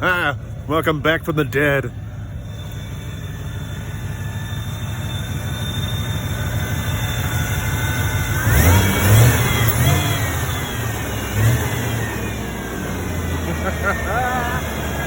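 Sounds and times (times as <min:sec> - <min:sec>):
engine rumbling and revving: 0:00.0 - 0:15.0.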